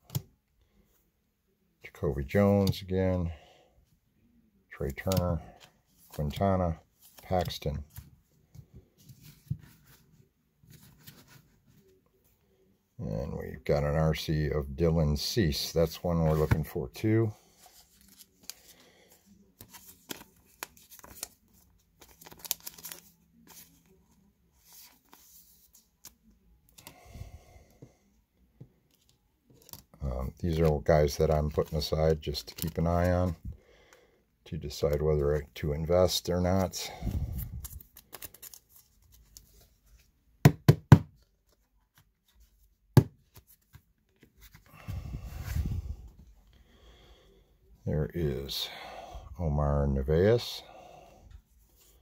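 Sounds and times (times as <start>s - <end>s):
trading cards and plastic sleeves handled: 0.0s - 3.4s, 4.6s - 33.6s, 34.4s - 46.6s.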